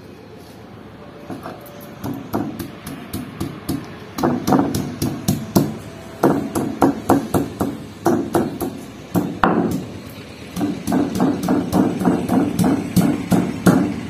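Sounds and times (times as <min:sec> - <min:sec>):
stone pestle pounding on slab: 0:02.0 - 0:09.9, 0:10.6 - 0:14.0.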